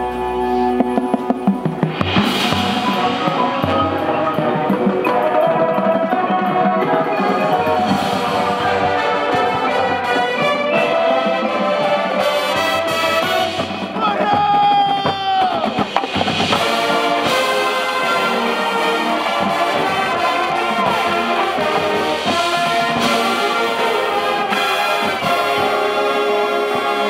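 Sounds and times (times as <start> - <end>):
marching band playing: 0.0 - 27.0.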